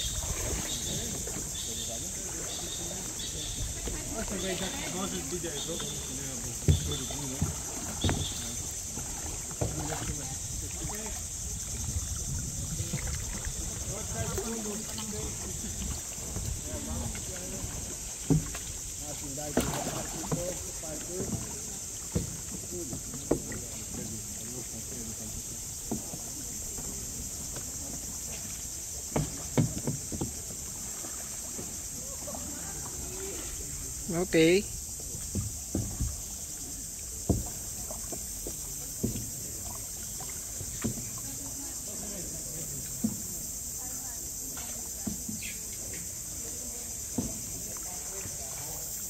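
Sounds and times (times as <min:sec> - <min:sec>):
high-pitched insect chorus: 0:00.0 - 0:49.0
paddle strokes splashing in water: 0:00.0 - 0:49.0.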